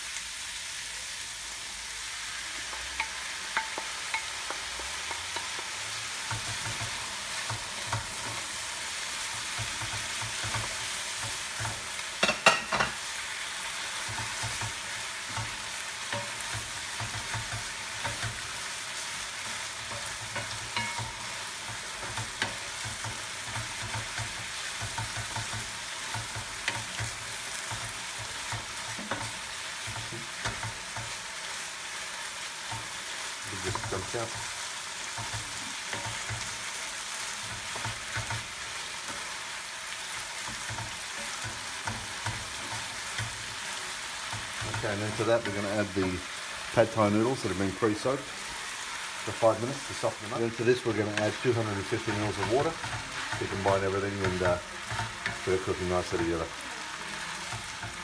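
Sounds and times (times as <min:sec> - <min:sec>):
food sizzling in a wok: 0:00.0 - 0:58.0
spatula scraping pan: 0:02.5 - 0:58.0.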